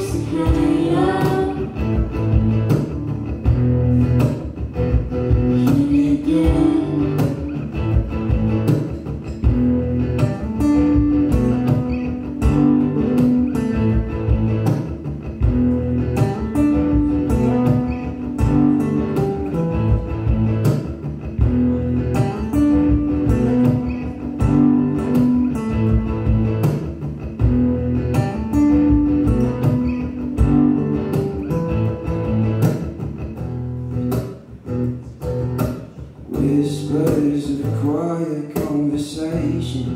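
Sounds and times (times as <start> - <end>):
acoustic guitar strummed and picked: 0.0 - 39.9.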